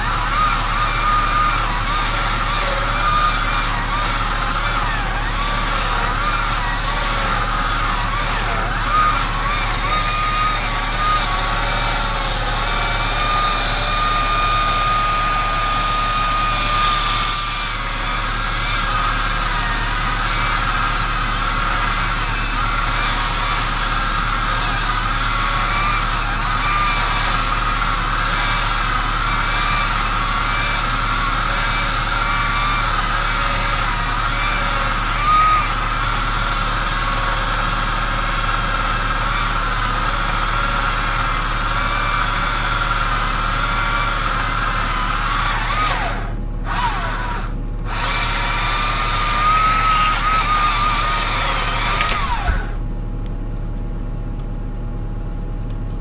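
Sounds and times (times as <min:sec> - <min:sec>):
wavering whine: 0:00.0 - 0:53.0
heavy machine engine and hydraulics: 0:00.0 - 0:56.0.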